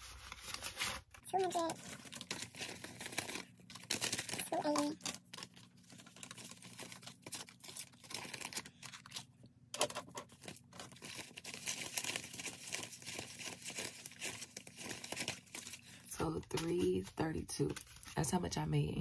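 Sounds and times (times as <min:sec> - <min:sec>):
banknotes rustling and crinkling: 0:00.0 - 0:19.0.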